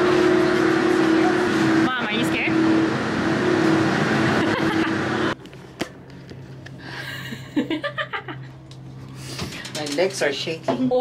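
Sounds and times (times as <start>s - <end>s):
gondola machinery rumbling: 0.0s - 11.0s.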